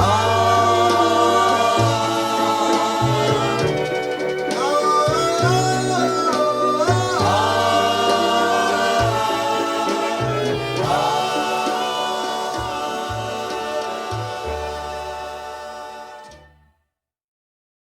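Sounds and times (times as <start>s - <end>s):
slow ballad backing with bass: 0.0s - 16.5s
vocal group singing close harmony: 0.0s - 16.6s.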